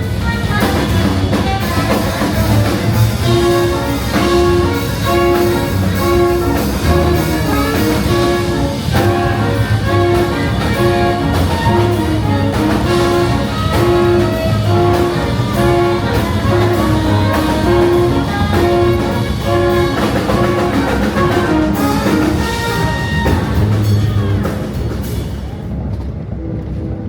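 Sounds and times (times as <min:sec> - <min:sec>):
jazz music with brass and drums: 0:00.0 - 0:25.7.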